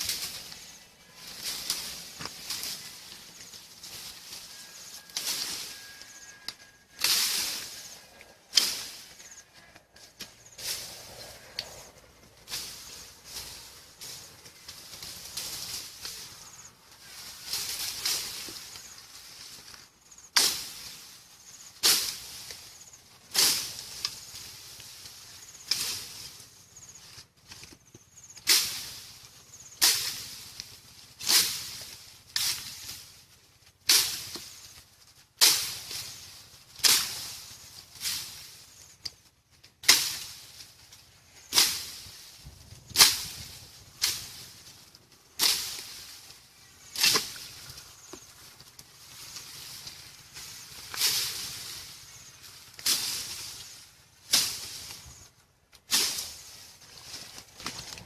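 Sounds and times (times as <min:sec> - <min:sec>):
swishing through leafy bamboo: 0:00.0 - 0:58.0.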